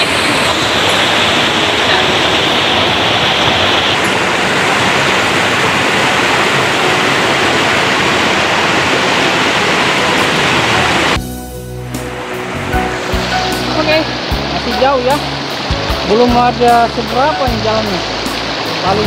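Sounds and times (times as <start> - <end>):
stream rushing over boulders: 0.0 - 11.2, 11.8 - 19.0.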